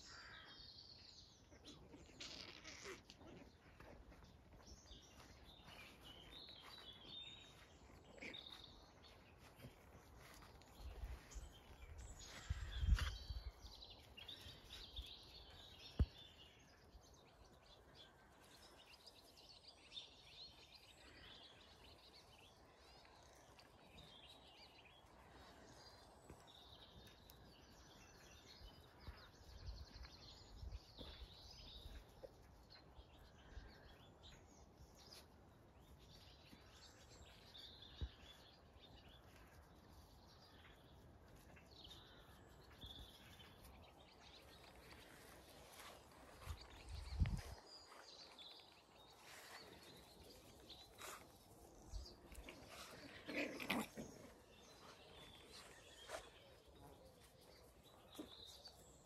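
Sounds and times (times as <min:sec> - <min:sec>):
faint birdsong: 0:00.0 - 0:59.0.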